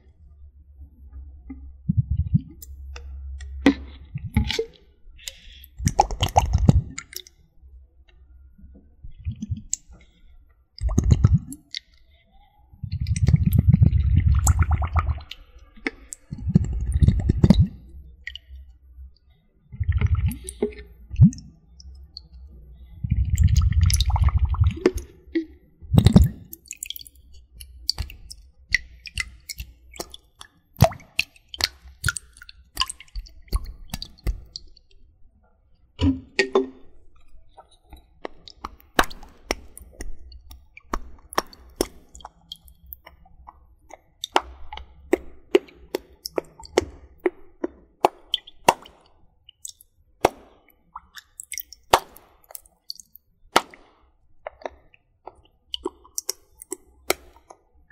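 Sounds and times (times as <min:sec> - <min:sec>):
water sloshing and plopping: 0:01.1 - 0:07.4, 0:08.6 - 0:18.7, 0:19.3 - 0:35.1, 0:35.8 - 0:57.9
small wet clicks: 0:01.1 - 0:35.1, 0:35.7 - 0:57.9.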